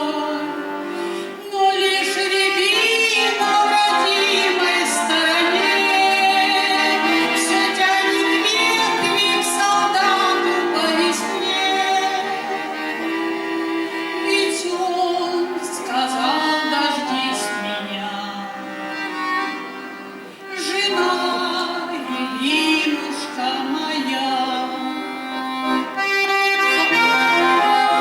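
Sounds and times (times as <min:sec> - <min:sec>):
woman singing: 0:00.0 - 0:13.0, 0:14.1 - 0:18.7, 0:20.5 - 0:25.2, 0:26.8 - 0:28.0
musical accompaniment: 0:00.0 - 0:28.0.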